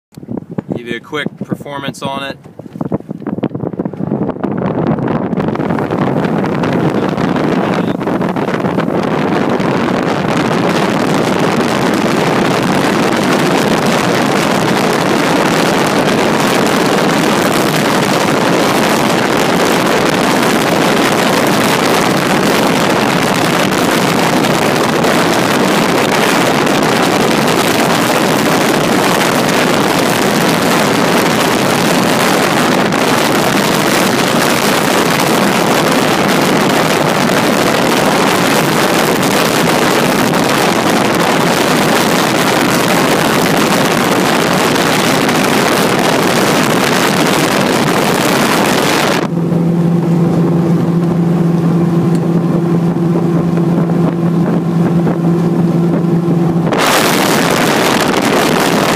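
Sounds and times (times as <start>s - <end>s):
boat wind and water rush: 0.1s - 58.9s.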